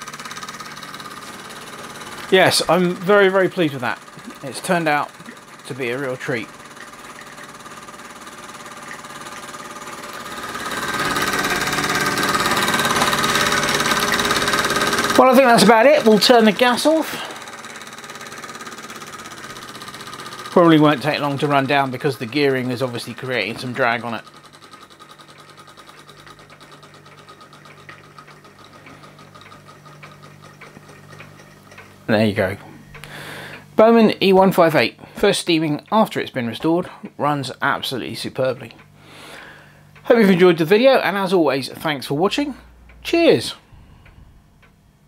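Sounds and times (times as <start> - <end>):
model steam engine running: 0.0 - 36.2.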